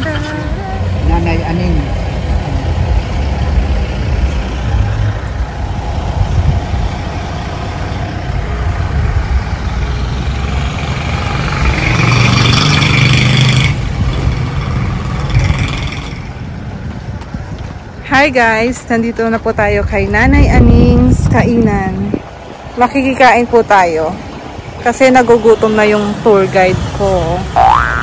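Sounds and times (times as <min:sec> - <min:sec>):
engine rumbling: 0:00.0 - 0:28.0.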